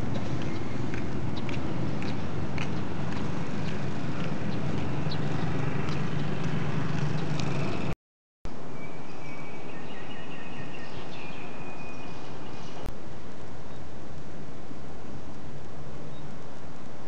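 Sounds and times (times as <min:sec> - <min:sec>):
outdoor ambient hum: 0:00.0 - 0:17.0.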